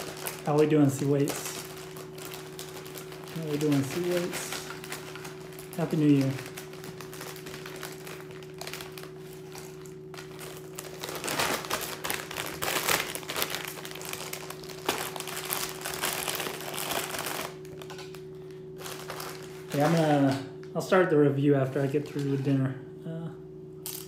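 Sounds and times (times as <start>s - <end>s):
plastic chip bag crackling: 0.0s - 20.4s, 21.6s - 22.4s
steady low hum: 0.0s - 24.0s.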